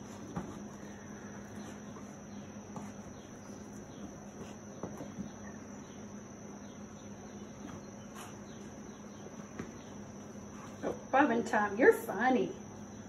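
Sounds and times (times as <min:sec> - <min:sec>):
faint low hum: 0:00.0 - 0:13.0
insects singing: 0:00.0 - 0:13.0.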